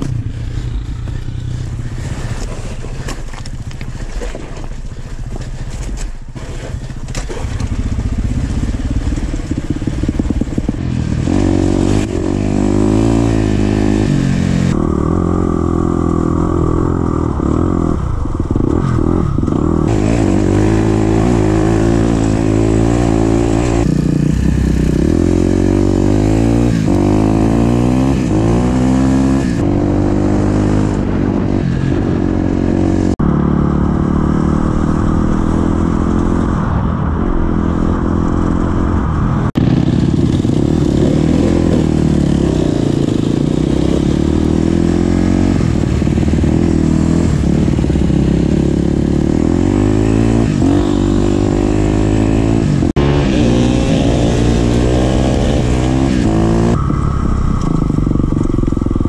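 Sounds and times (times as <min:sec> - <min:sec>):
dirt bike engine revving: 0:06.3 - 0:36.8, 0:37.4 - 0:59.0.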